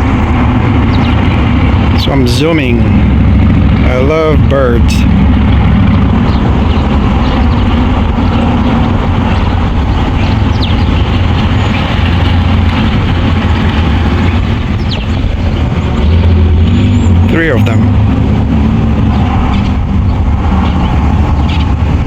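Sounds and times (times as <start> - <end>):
low rumble with hiss: 0.0 - 22.0.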